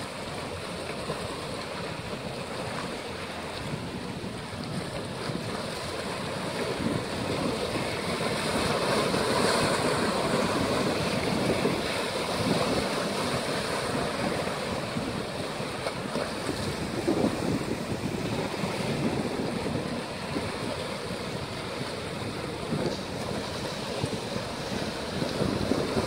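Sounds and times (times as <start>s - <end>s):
waves breaking on rocks: 0.0s - 26.0s
wind on microphone: 0.0s - 26.0s.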